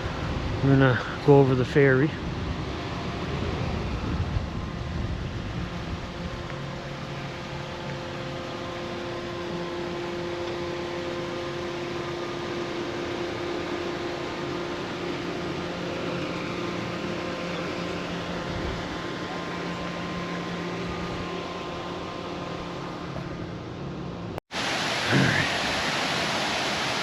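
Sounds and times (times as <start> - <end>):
ship engine drone: 0.0 - 27.0.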